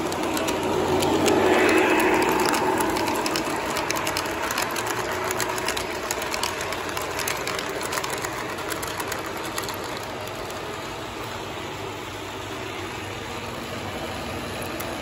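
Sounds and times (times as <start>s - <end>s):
model train wheels rumbling: 0.0s - 15.0s
wheels clicking over rail joints: 0.0s - 15.0s.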